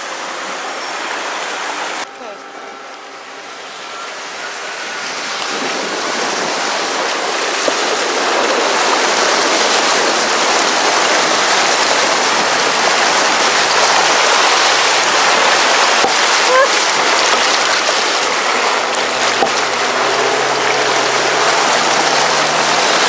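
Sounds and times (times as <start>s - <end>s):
water rushing and splashing against vehicle: 0.0s - 23.0s.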